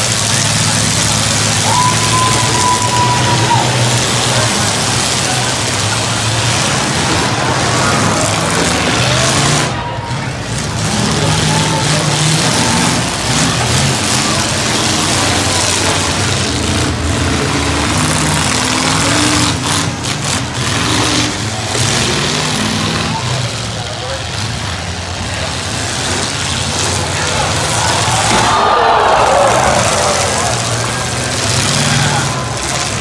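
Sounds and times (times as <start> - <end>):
truck engines revving: 0.0 - 33.0.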